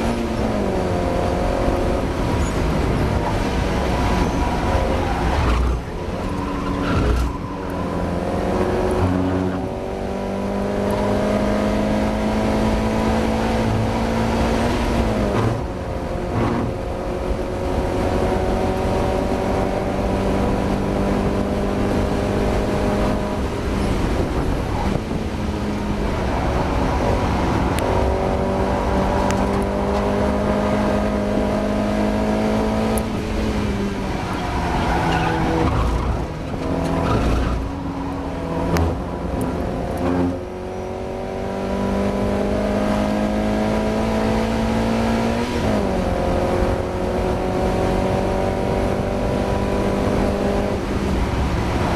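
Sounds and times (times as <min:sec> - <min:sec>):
race car engine accelerating: 0:00.0 - 0:51.9.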